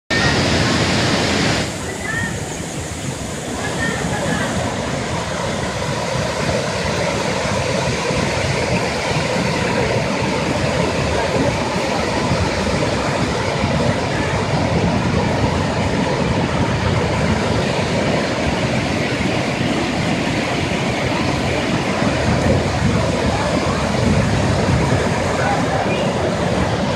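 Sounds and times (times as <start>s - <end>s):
waterfalls rushing: 0.1s - 26.9s.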